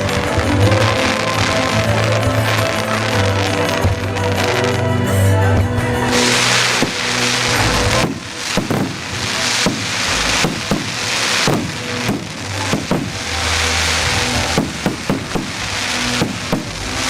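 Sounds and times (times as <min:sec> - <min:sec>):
crackling hiss: 0:00.0 - 0:17.0
fireworks bangs: 0:00.0 - 0:17.0.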